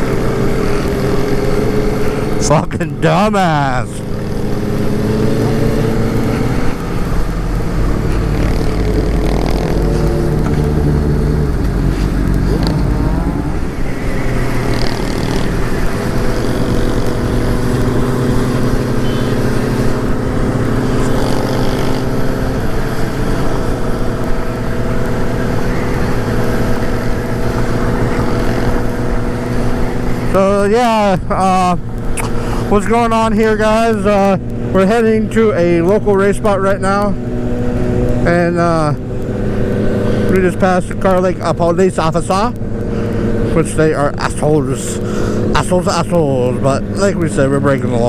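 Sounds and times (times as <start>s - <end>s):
motorcycle engine running: 0.0s - 48.0s
wind rushing over microphone: 0.0s - 48.0s.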